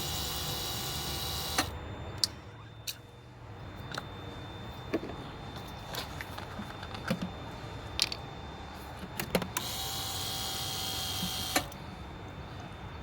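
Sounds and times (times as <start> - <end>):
electric pump motor whine: 0.0 - 13.0.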